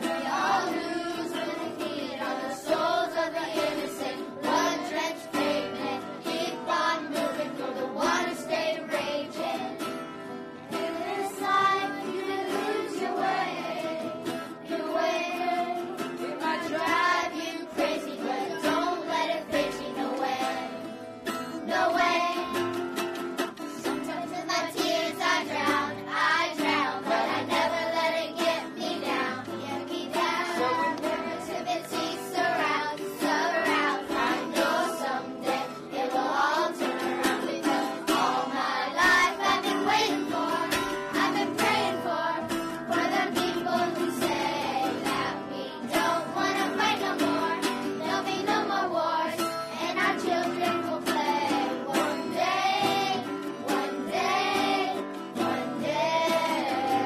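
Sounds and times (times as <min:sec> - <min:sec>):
children's voices singing: 0:00.0 - 0:57.0
people singing: 0:00.0 - 0:57.0
plucked string instrument: 0:00.0 - 0:57.0.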